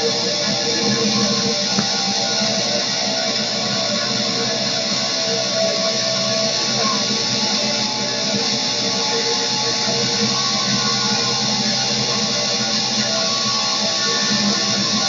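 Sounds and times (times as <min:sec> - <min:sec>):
loud noise music guitar wall: 0:00.0 - 0:15.0.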